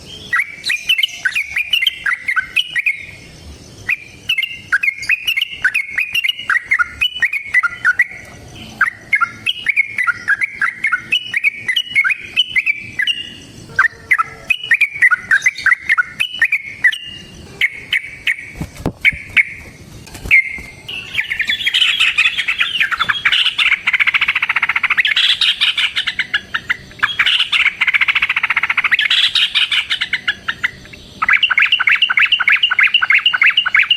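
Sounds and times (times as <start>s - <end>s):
bulbul singing warbling phrases: 0.0s - 19.6s, 20.3s - 33.9s.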